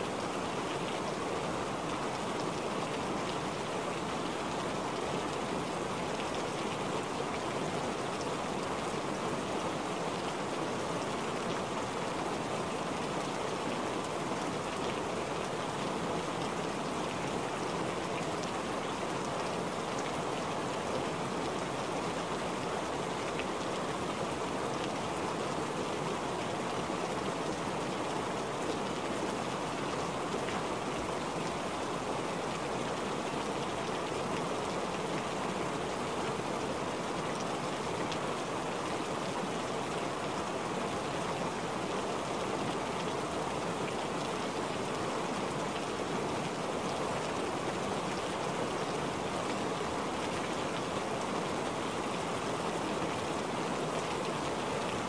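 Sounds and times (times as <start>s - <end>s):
steady rain on wet surface: 0.0s - 55.0s.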